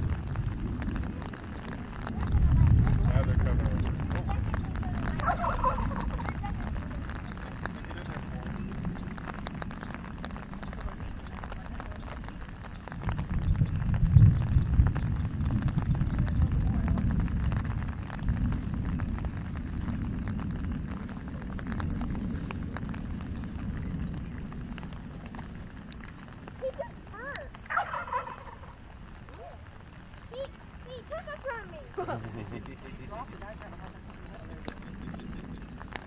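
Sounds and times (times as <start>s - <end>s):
rain pattering on umbrellas: 0.0s - 36.0s
wind buffeting microphone: 0.0s - 36.0s.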